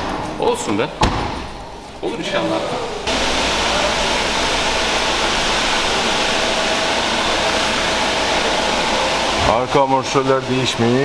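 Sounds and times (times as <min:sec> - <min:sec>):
machine running with faint hum: 0:00.0 - 0:11.0.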